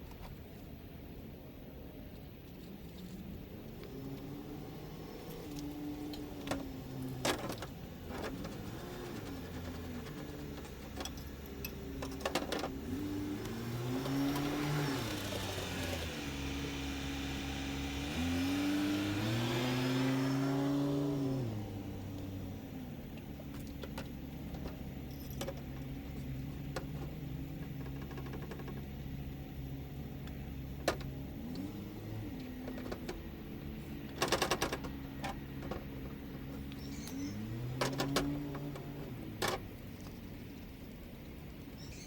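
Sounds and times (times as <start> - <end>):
vehicle engine revving: 3.6 - 40.4.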